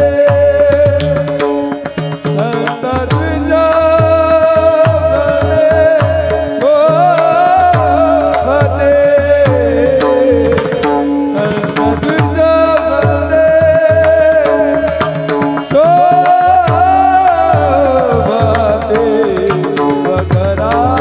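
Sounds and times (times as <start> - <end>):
hand drum beat: 0.0 - 21.0
held melody: 0.0 - 21.0
person singing: 0.0 - 21.0.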